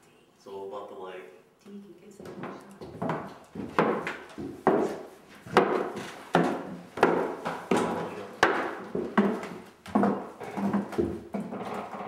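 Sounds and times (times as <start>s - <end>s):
footsteps on wooden stairs: 2.2s - 12.0s.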